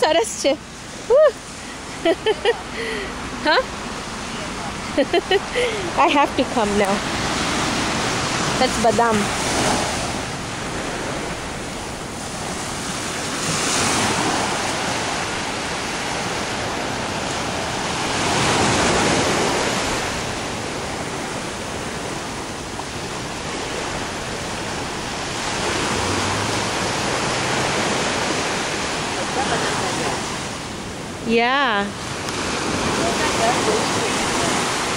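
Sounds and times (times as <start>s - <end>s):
small waves breaking on beach: 0.0s - 34.9s.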